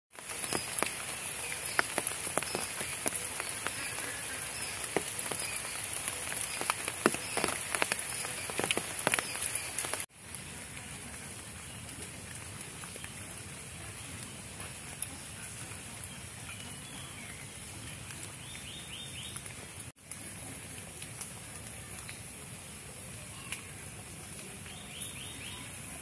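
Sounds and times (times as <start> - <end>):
rain drops hitting foliage: 0.1 - 26.0
steady rain hiss: 0.1 - 26.0.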